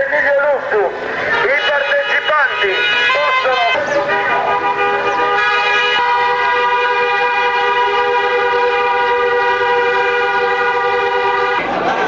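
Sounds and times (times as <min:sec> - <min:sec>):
car horns honking: 0:00.3 - 0:12.0.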